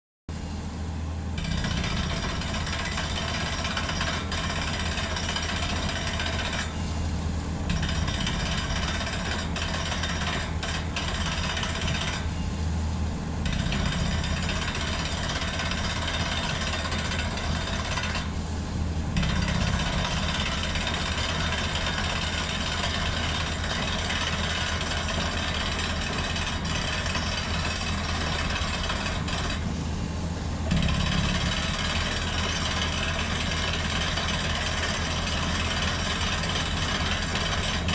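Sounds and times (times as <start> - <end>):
steady engine drone: 0.3 - 37.9
jackhammer-like rattle: 1.4 - 6.7, 7.7 - 12.2, 13.4 - 18.2, 19.2 - 29.6, 30.7 - 37.9.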